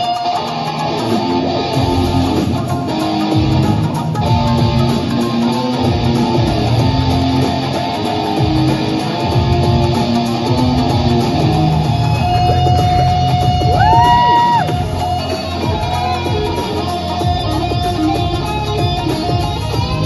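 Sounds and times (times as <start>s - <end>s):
electric guitar lead: 0.0s - 20.0s.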